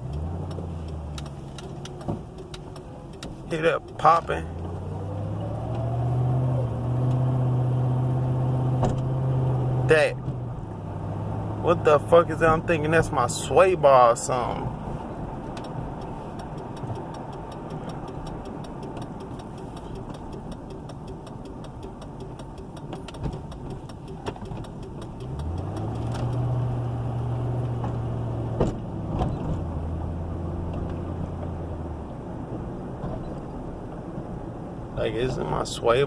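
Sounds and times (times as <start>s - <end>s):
suspension pops: 0.0s - 34.3s
car engine and road noise: 0.0s - 36.0s.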